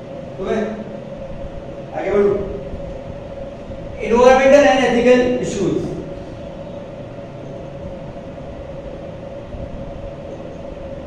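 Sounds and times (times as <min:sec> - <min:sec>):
mechanical room hum: 0:00.0 - 0:11.0.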